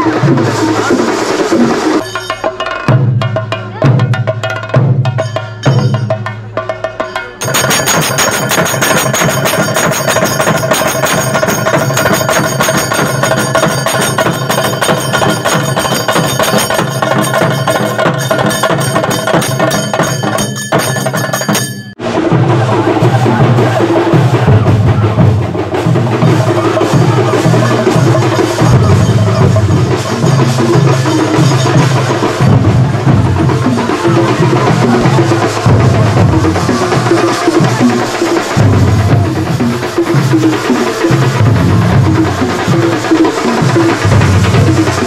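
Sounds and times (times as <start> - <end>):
ringing cymbals: 0.0 - 23.8, 25.2 - 45.0
heavy drumming: 0.0 - 45.0.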